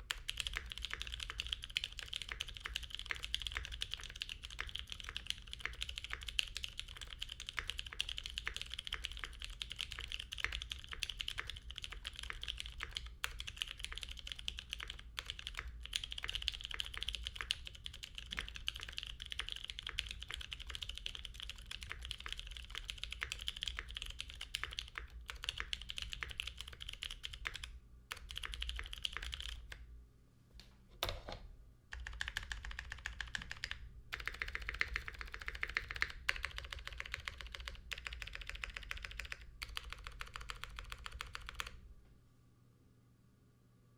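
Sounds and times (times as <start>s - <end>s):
mechanical keyboard typing: 0.0s - 29.8s, 31.9s - 41.8s.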